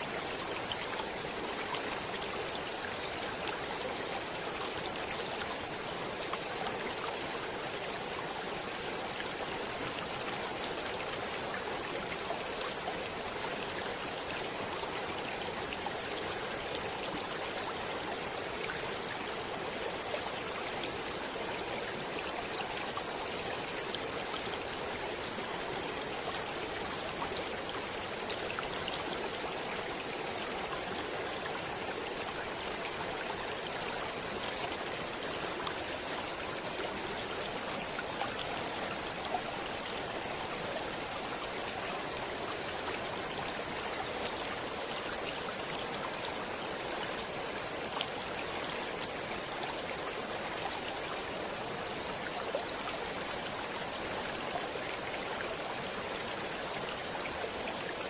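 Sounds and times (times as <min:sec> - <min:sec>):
stream water over rocks: 0:00.0 - 0:58.0.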